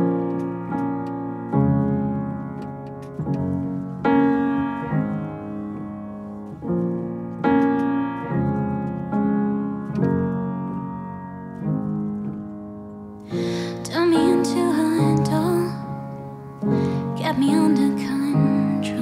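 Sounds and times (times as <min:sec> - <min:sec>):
upright piano slow chords: 0:00.0 - 0:19.0.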